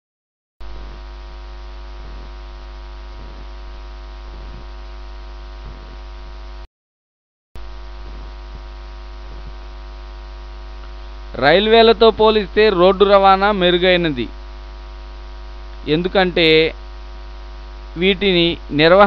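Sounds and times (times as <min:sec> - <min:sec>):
electrical mains hum: 0:00.6 - 0:06.7, 0:07.6 - 0:19.0.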